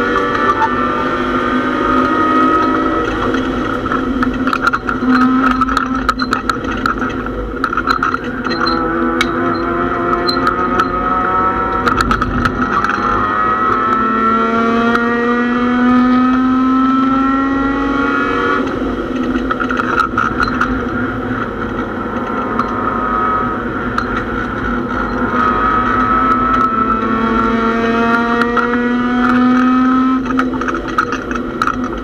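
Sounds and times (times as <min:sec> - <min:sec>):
sharp rattles and clicks: 0:00.0 - 0:15.5, 0:18.3 - 0:32.0
racecar engine revving: 0:00.0 - 0:32.0.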